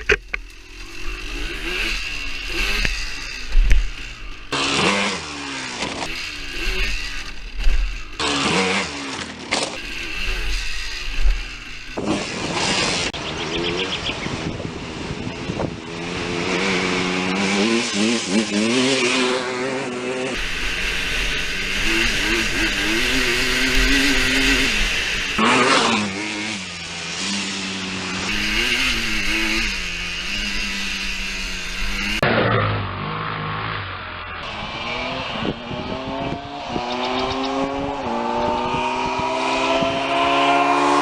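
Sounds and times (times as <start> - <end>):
two-stroke engine revving: 0.0 - 41.0.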